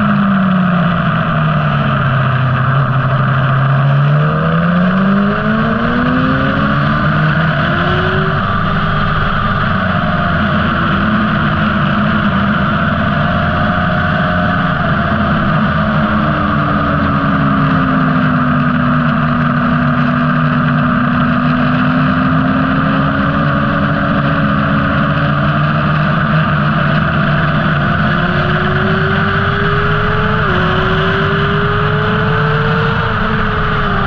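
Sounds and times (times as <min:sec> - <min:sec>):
motorcycle engine at speed: 0:00.0 - 0:34.0.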